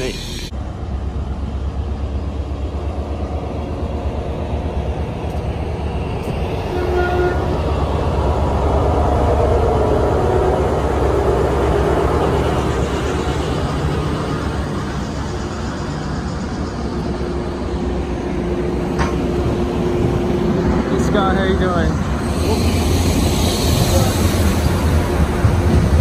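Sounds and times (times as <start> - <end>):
diesel locomotive rumbling: 0.0 - 26.0.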